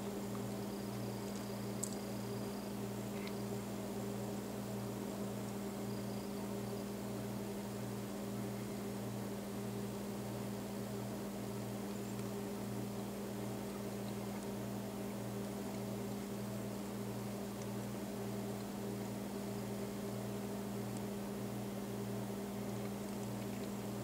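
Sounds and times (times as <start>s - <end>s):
constant hiss: 0.0s - 24.0s
low mechanical hum: 0.0s - 24.0s.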